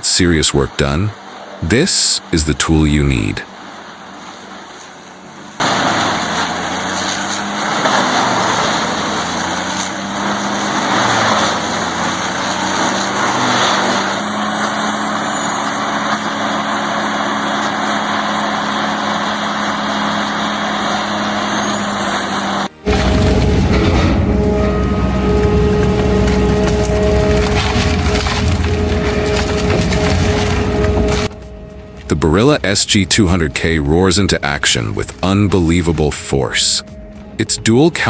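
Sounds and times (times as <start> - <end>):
diesel engine drone: 0.0 - 38.0
wood grinder crunching and grinding: 2.7 - 38.0.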